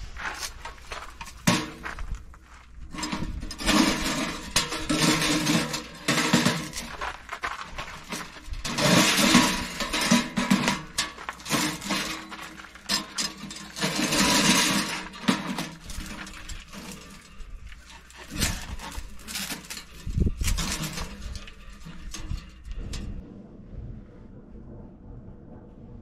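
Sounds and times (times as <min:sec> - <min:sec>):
metal stovepipes clinking and scraping: 0:00.4 - 0:02.1, 0:02.8 - 0:23.2.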